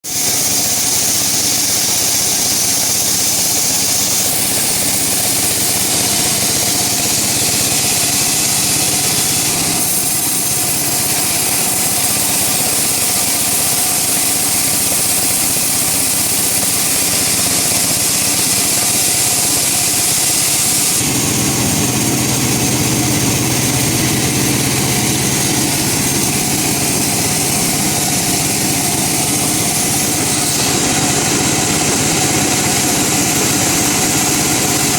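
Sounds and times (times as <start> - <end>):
woodworking machinery running: 0.0 - 34.9.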